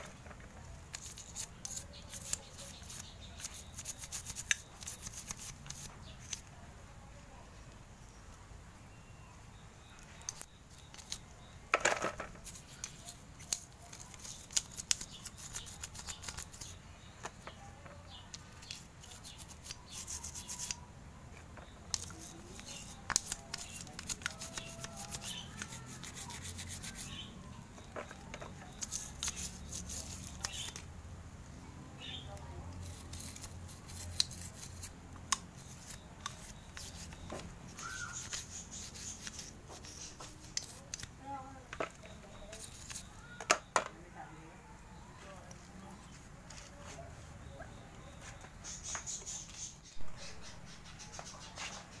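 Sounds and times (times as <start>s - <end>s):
scratchy rubbing and scraping: 0.0s - 6.5s, 10.0s - 20.8s, 21.6s - 30.9s, 32.0s - 43.3s, 48.2s - 52.0s.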